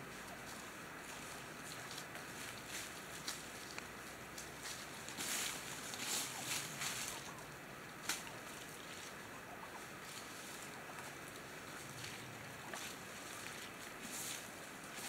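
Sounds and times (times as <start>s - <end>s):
steady background hiss: 0.0s - 15.0s
turkeys scratching in leaves: 0.0s - 15.0s.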